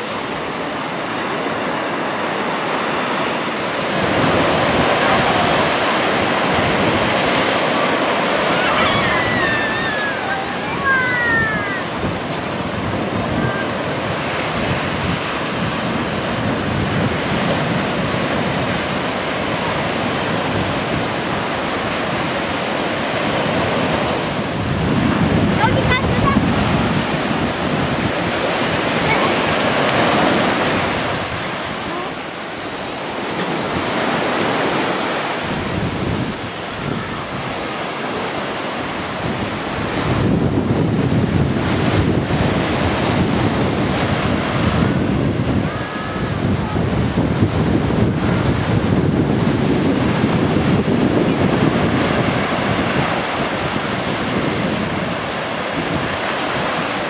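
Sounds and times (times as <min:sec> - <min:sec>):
ocean surf on sandy beach: 0:00.0 - 0:57.0
wind buffeting microphone: 0:00.0 - 0:57.0.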